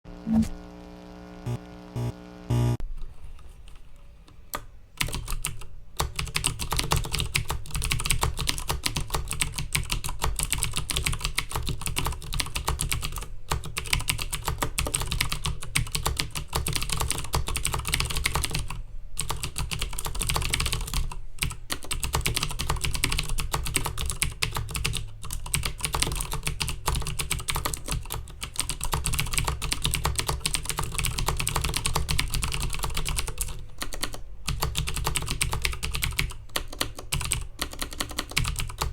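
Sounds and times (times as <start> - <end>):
fast mechanical keyboard typing: 5.0 - 38.9.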